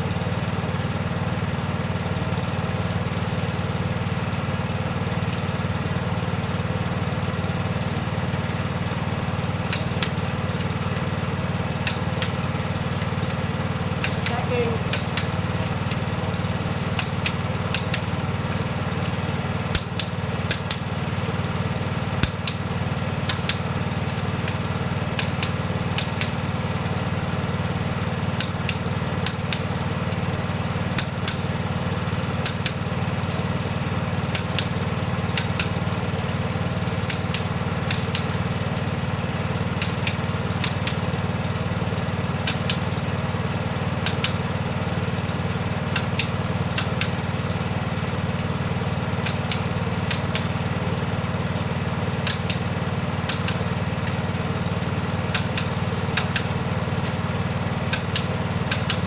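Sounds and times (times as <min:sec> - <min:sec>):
diesel engine idling: 0:00.0 - 0:59.0
sharp engine ticks: 0:08.1 - 0:27.4, 0:28.0 - 0:59.0.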